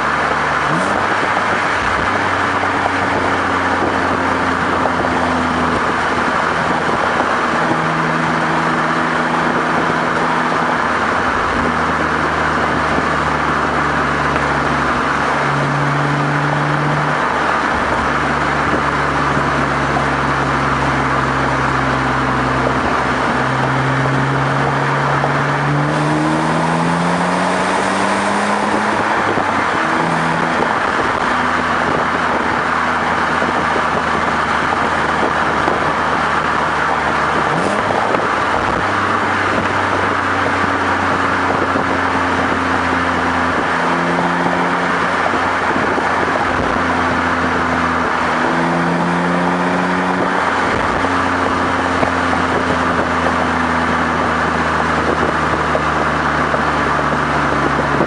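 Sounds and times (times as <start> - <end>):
car exhaust drone: 0.0 - 58.0
wind and road noise: 0.0 - 58.0.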